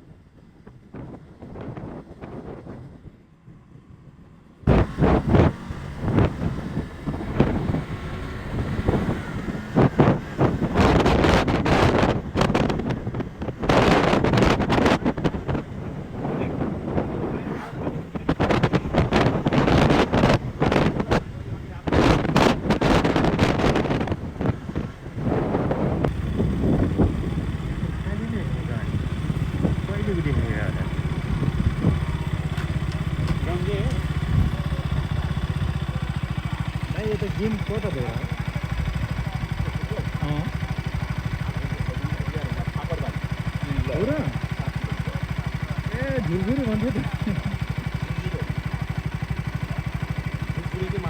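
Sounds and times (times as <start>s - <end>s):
wind buffeting microphone: 0.0s - 50.6s
motorcycle running: 0.0s - 51.0s.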